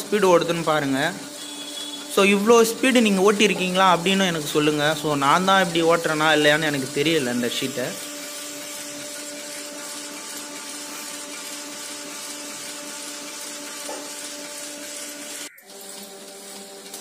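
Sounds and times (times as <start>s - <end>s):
printing press running: 0.0s - 17.0s.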